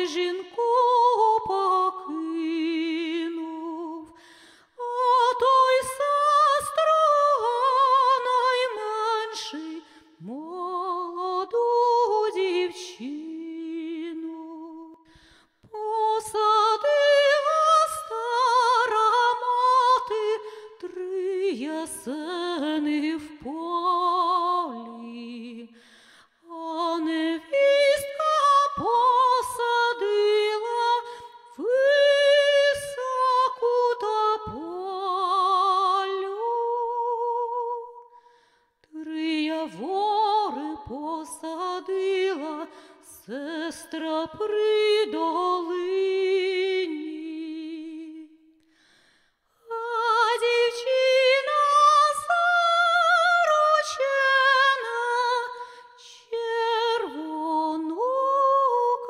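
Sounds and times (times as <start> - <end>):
woman singing unaccompanied: 0.0 - 4.2, 4.8 - 15.0, 15.7 - 25.7, 26.5 - 38.0, 38.9 - 48.4, 49.7 - 59.0.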